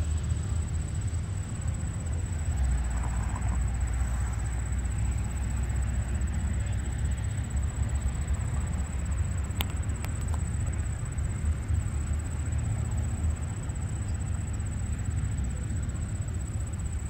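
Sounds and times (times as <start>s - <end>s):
diesel train rumble: 0.0s - 17.0s.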